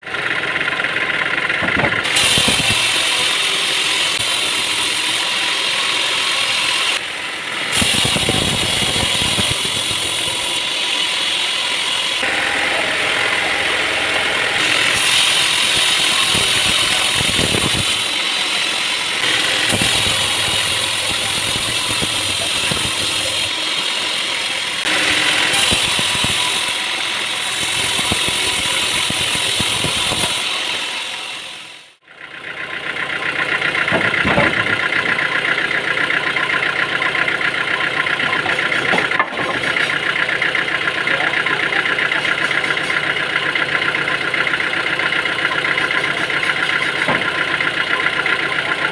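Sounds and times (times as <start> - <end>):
sawmill machinery cutting wood: 0.0 - 48.9.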